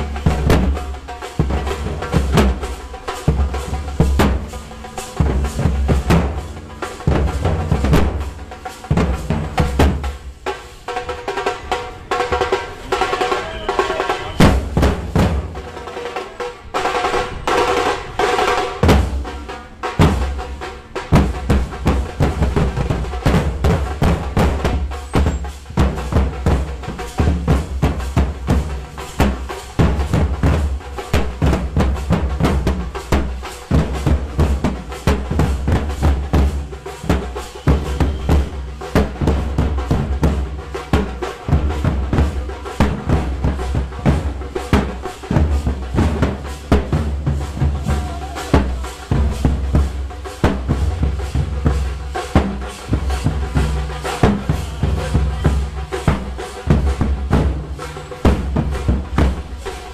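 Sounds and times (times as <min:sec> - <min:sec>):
bass drum beats: 0:00.0 - 0:10.4, 0:12.4 - 0:15.8, 0:17.2 - 0:59.9.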